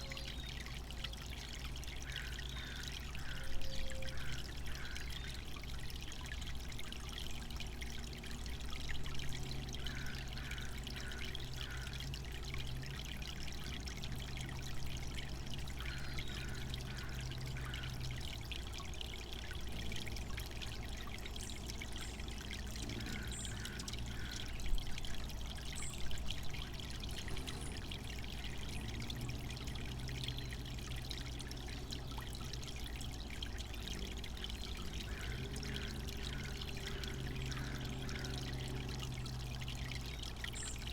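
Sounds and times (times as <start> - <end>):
water fountain trickling: 0.0 - 40.9.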